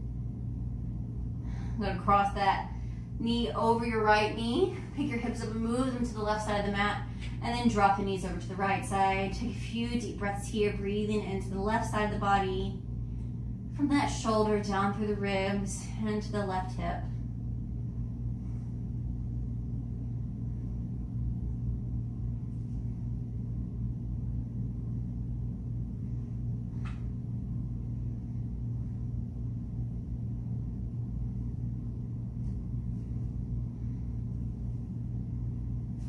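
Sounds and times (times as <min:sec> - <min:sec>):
steady low room hum: 0:00.0 - 0:36.0.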